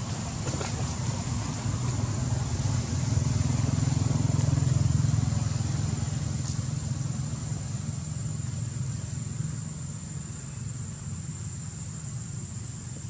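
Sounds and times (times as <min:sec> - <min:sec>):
distant vehicle engine rumble: 0:00.0 - 0:13.0.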